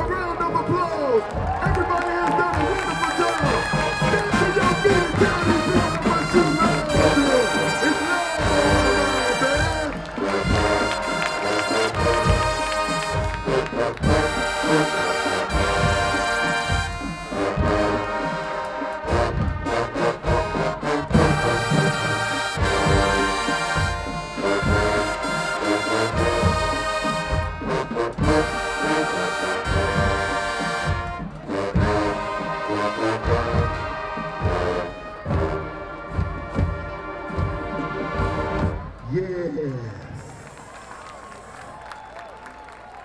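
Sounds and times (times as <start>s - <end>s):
marching band playing: 0.0s - 43.0s.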